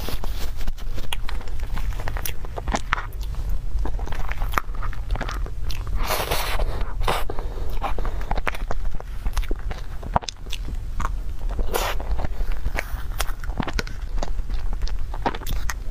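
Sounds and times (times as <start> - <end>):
wet mouth clicks and chewing: 0.6 - 15.9.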